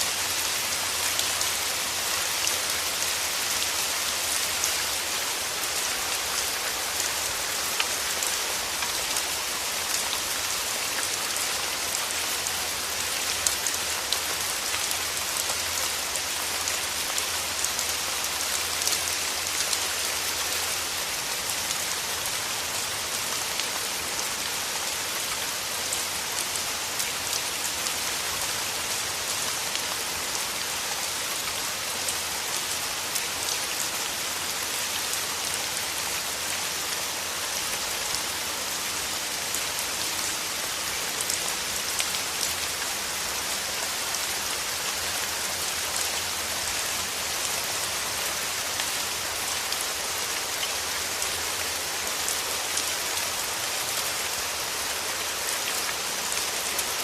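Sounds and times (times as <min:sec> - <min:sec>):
rain falling through trees: 0:00.0 - 0:57.0.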